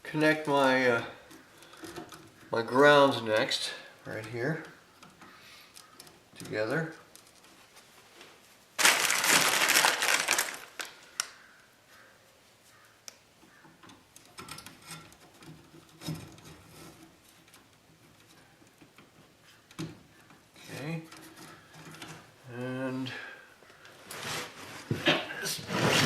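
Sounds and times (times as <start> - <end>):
copper wires crinkling and scraping: 0.0 - 12.1, 13.5 - 23.1, 23.9 - 26.0
faint clicks and rustles: 0.4 - 22.6.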